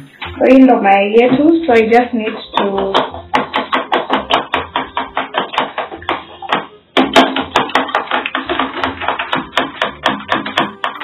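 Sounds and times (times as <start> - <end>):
spoon tapping against plastic bowl: 1.2 - 11.0.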